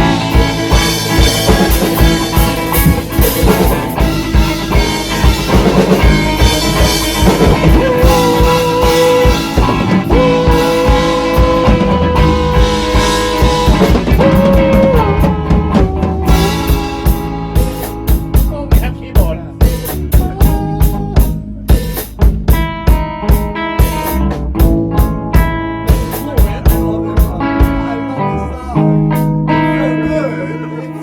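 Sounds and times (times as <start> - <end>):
guitar sustained lead notes: 0.0 - 21.7, 22.6 - 31.0
rock band playing: 0.0 - 31.0.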